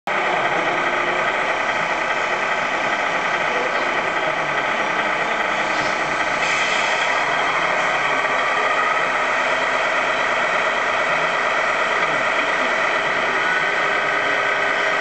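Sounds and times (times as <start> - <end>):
toy truck engine drone: 0.1 - 15.0.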